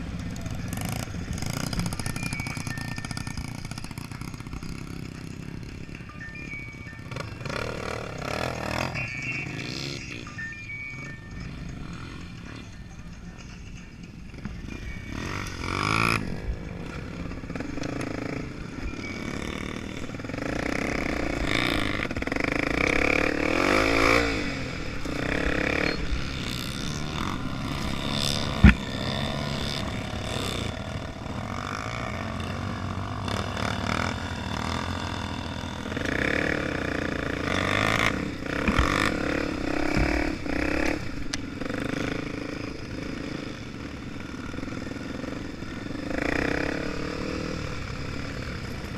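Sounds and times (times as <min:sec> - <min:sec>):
motorcycle engine revving: 0:00.0 - 0:06.0, 0:07.0 - 0:10.4, 0:13.8 - 0:48.9.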